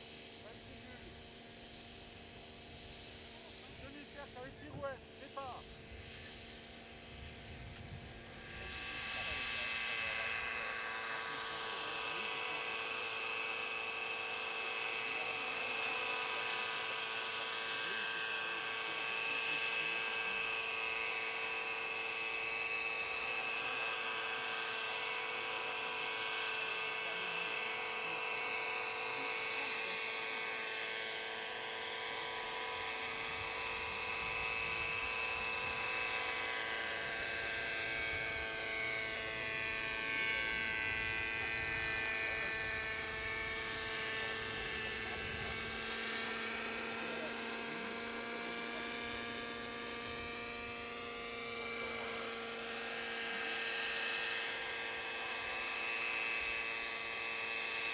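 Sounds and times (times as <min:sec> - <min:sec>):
model helicopter motor whine: 0:00.0 - 0:57.9.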